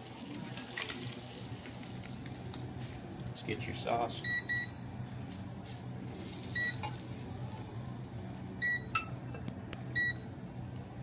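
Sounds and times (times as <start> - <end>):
steady low hum: 1.0 - 11.0.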